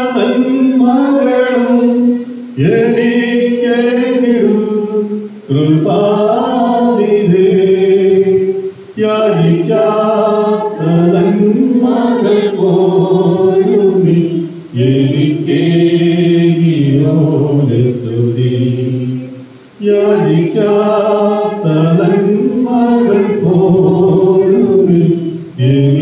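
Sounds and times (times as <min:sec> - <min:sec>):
man singing through microphone: 0:00.0 - 0:26.0
unaccompanied hymn singing: 0:00.0 - 0:26.0.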